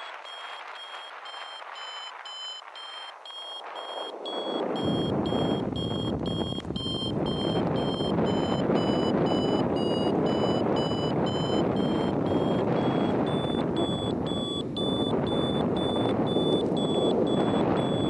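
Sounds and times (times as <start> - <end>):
variometer beeping: 0.0 - 18.0
wind rushing on microphone: 0.0 - 18.0.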